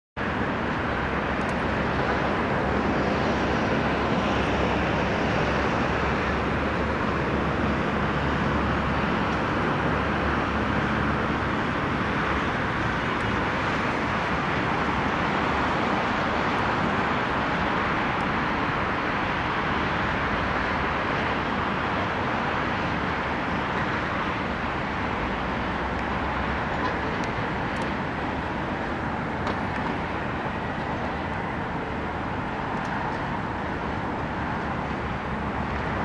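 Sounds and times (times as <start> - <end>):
city traffic noise: 0.2 - 36.0.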